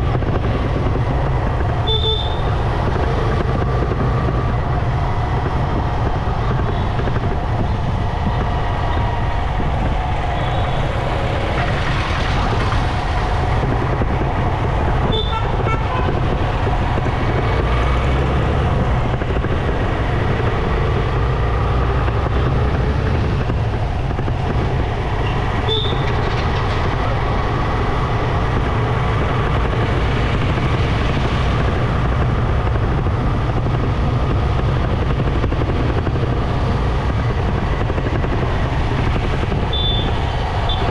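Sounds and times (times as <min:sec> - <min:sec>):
motorcycle engine: 0:00.0 - 0:40.9
road noise: 0:00.0 - 0:40.9.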